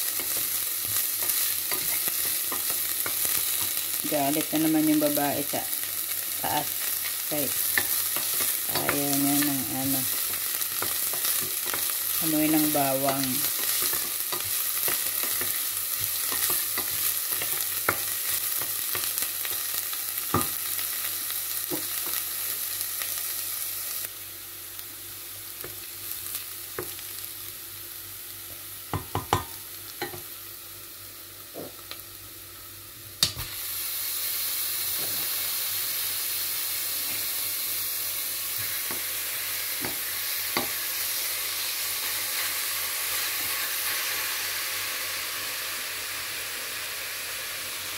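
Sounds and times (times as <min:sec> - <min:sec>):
meat frying: 0:00.0 - 0:47.9
onion sizzling in oil: 0:00.0 - 0:47.9.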